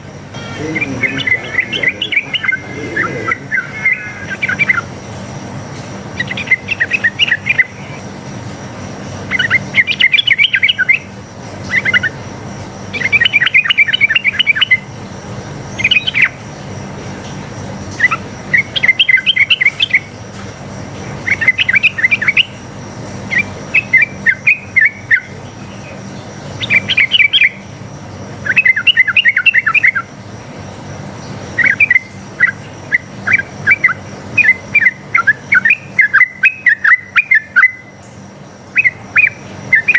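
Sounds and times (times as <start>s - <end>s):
bulbul singing in chattering bursts: 0.0s - 39.9s.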